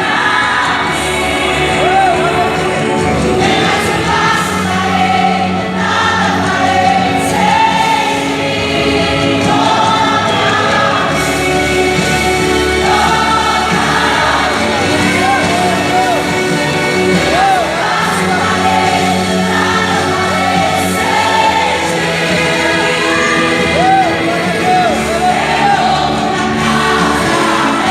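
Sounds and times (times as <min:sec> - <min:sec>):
instrumental backing: 0:00.0 - 0:27.9
vocal group singing in harmony: 0:00.0 - 0:27.9.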